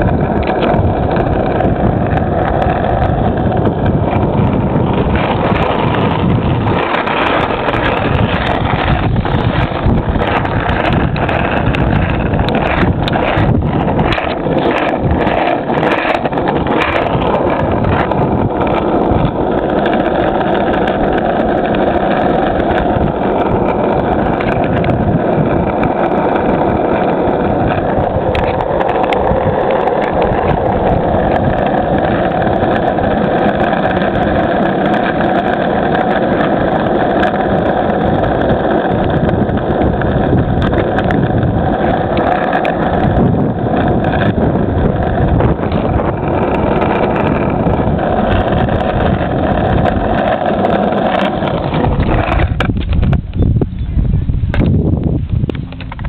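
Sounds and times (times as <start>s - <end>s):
skateboard wheels rumbling on asphalt: 0.0s - 56.0s.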